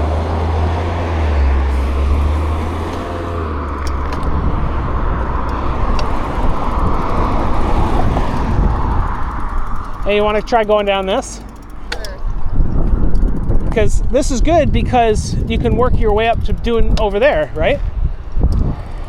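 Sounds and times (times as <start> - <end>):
wind rumble on microphone: 0.0 - 10.8, 12.2 - 19.0
bike tyre and trail noise: 0.0 - 19.0
sharp ticks: 2.8 - 19.0.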